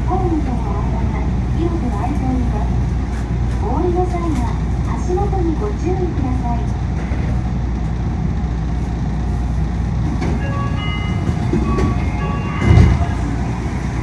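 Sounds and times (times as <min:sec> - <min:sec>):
air conditioning noise: 0:00.0 - 0:14.0
monorail car rumble: 0:00.0 - 0:14.0.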